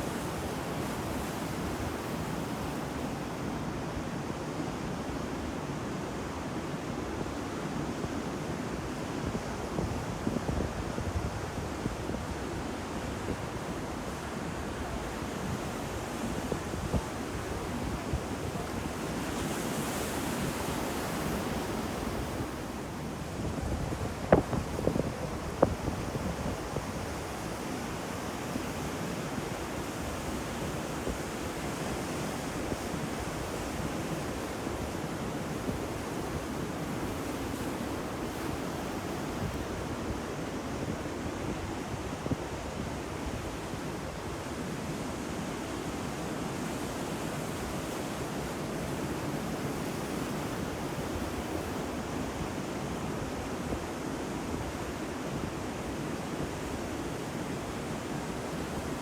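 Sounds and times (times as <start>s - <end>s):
wind: 0.0s - 59.0s.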